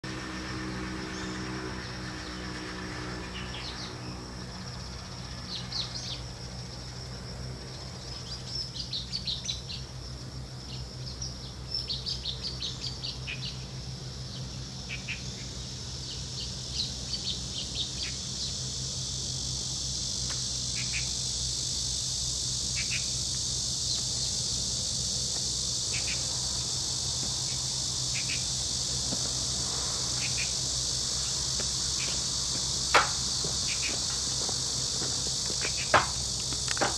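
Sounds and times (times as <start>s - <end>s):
high insect buzz: 0.0s - 36.9s
steady low hum: 0.0s - 36.9s.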